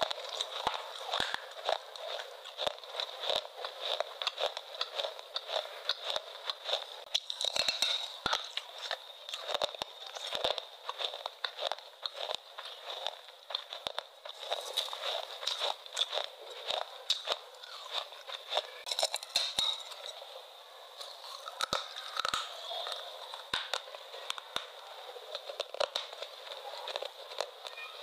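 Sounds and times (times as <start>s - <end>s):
person chewing crunchy food: 0.0s - 28.0s.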